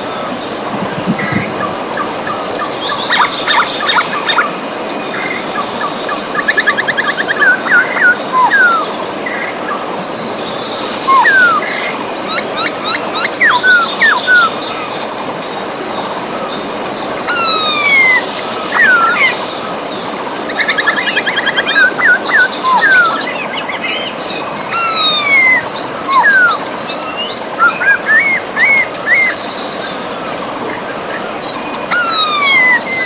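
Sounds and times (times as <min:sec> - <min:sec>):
birds singing: 0:00.0 - 0:33.0
river rushing: 0:00.0 - 0:33.0.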